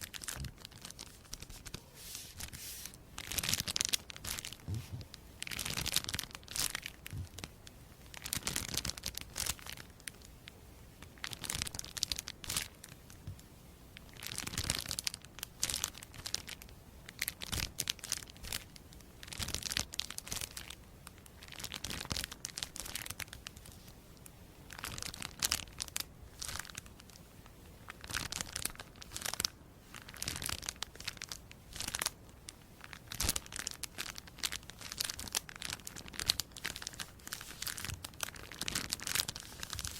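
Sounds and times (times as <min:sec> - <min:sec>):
crisp crinkling and crackling: 0:00.0 - 0:10.2, 0:11.0 - 0:13.4, 0:14.0 - 0:27.2, 0:27.8 - 0:39.9.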